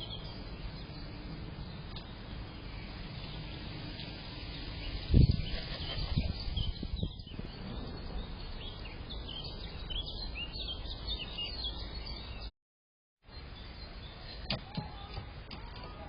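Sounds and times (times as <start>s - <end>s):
small birds chirping: 0.0s - 12.5s, 13.2s - 16.0s.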